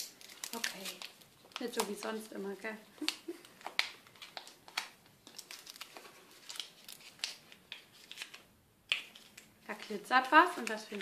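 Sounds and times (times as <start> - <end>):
paper wrapping crinkling and tearing: 0.0 - 2.4, 3.0 - 11.0.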